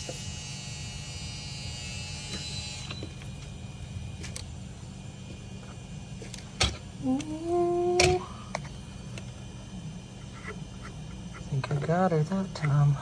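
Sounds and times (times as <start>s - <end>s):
low hum: 0.4s - 13.0s.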